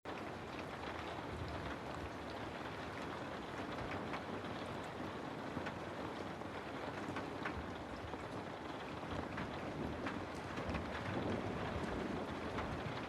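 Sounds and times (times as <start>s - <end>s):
steady rainfall: 0.1s - 13.0s.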